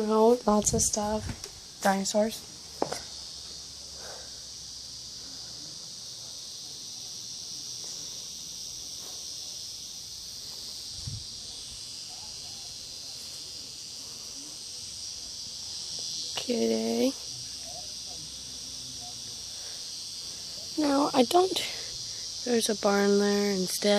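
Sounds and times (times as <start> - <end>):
crickets chirring: 0.0 - 23.9.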